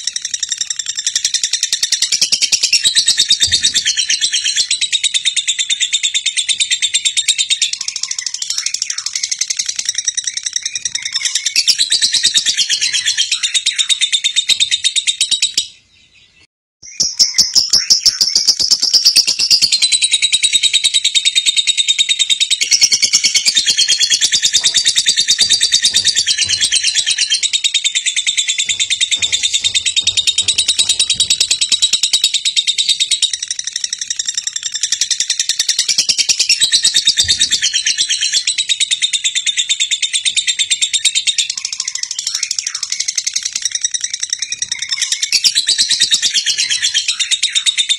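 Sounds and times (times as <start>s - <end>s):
high-pitched bird chirping: 0.0s - 47.9s.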